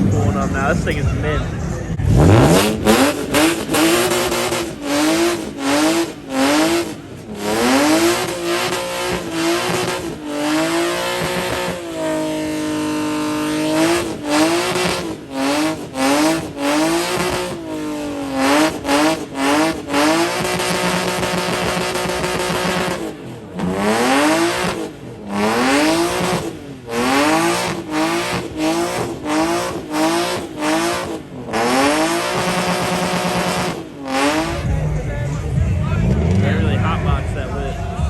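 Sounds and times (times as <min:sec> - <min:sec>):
tires squealing: 0:00.0 - 0:34.9
car engine revving: 0:00.0 - 0:38.0.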